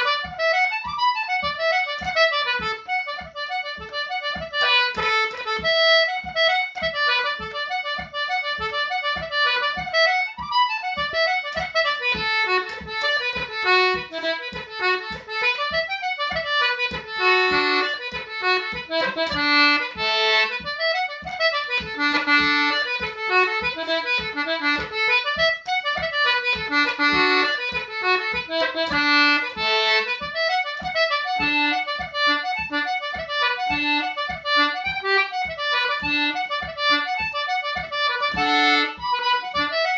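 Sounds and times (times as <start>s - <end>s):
low tapping beat: 0.0s - 39.9s.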